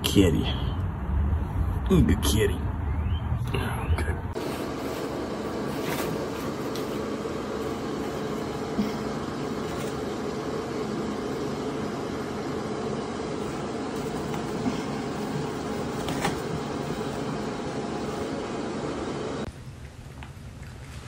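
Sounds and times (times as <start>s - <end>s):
steady machine hum: 3.5s - 21.0s.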